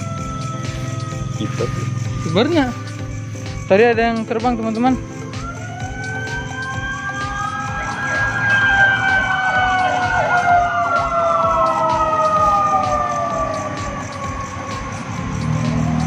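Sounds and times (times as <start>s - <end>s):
ambulance siren wailing: 0.0s - 16.0s.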